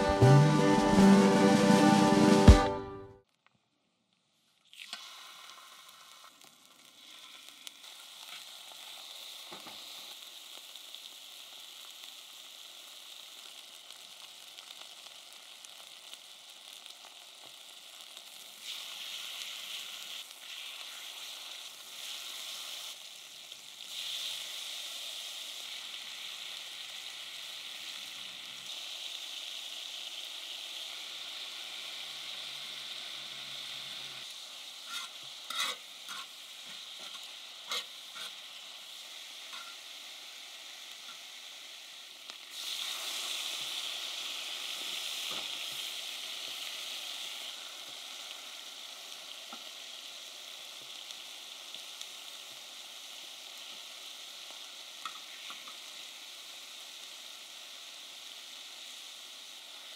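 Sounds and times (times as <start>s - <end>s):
meat sizzling on a griddle: 4.8s - 59.9s.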